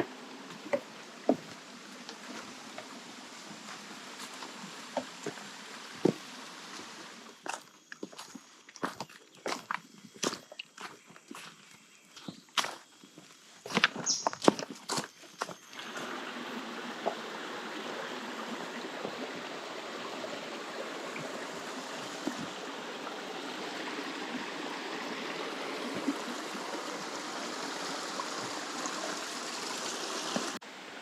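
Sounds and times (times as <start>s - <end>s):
stream water running: 0.0s - 31.0s.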